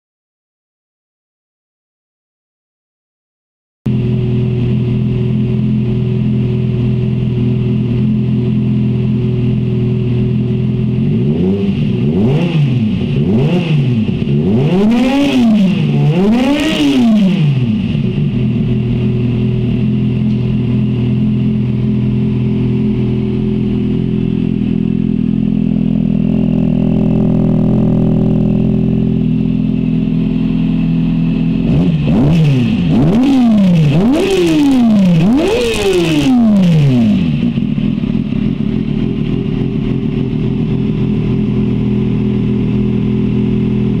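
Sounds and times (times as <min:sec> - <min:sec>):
motorcycle engine idling and revving: 0:03.9 - 0:44.0.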